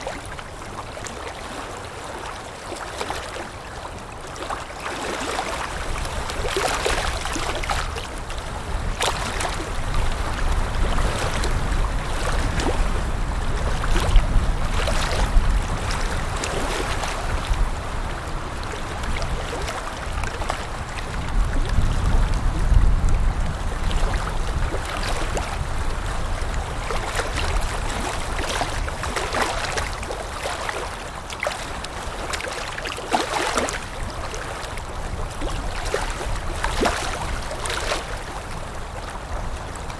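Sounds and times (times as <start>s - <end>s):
water lapping and splashing: 0.0s - 39.9s.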